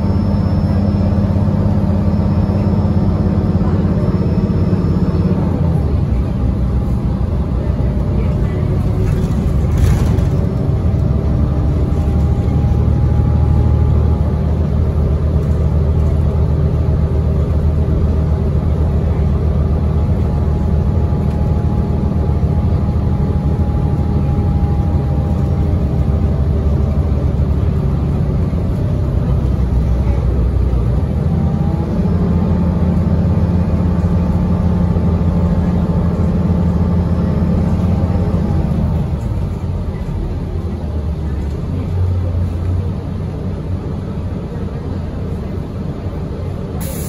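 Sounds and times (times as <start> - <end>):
bus engine running: 0.0 - 47.0
road noise: 0.0 - 47.0.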